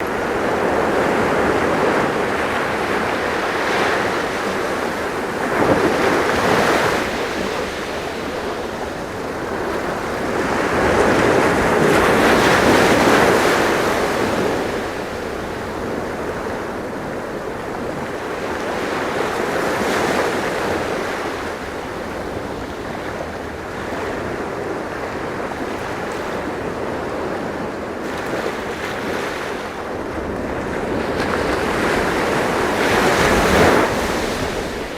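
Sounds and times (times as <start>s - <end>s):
sea waves washing ashore: 0.0s - 34.9s.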